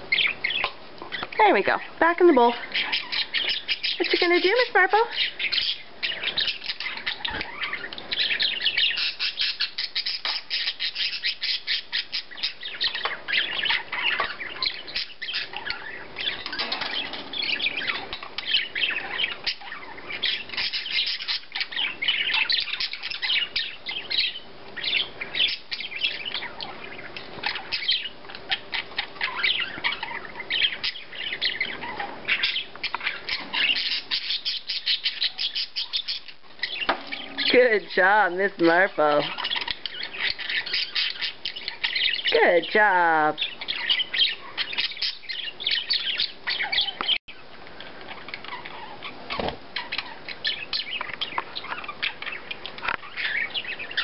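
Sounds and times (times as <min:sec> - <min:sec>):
budgies chattering: 0:00.0 - 0:54.0.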